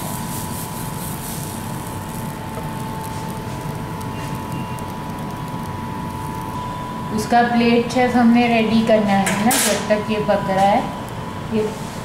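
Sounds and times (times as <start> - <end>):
faint high whine: 0.0 - 11.8
pancakes cooking rumble and hiss: 0.0 - 12.0.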